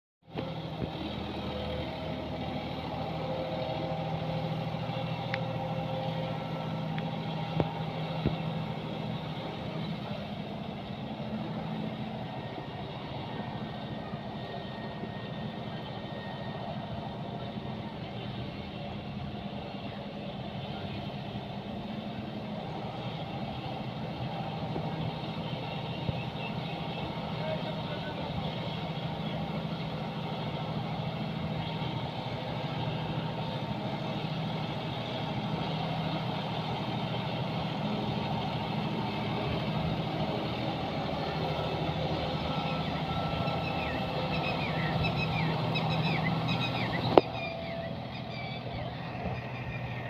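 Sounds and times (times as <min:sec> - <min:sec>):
tractor diesel engine running: 0:00.2 - 0:50.0.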